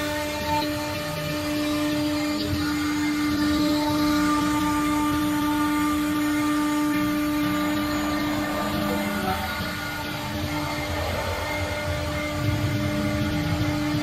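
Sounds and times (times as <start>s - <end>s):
end mill rasping through sheet: 0.0s - 14.0s
router spindle whine: 0.0s - 14.0s.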